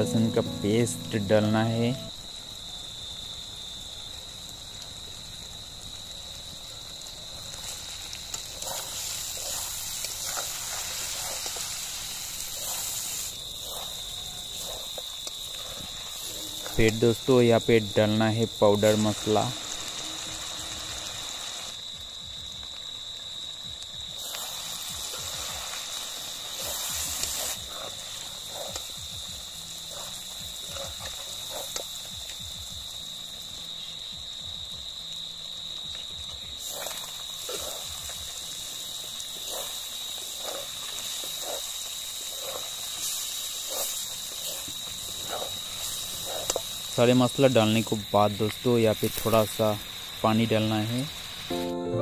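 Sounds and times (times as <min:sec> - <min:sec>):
meat frying in oil: 0:02.5 - 0:51.5.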